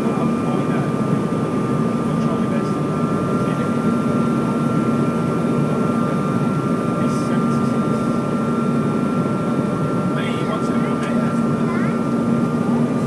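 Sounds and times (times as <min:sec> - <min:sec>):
jet engine high whine: 0:00.0 - 0:13.0.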